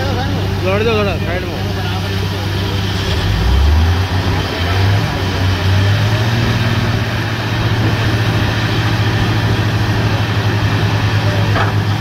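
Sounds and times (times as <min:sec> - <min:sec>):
drilling rig engine pulsing: 0:00.0 - 0:12.0.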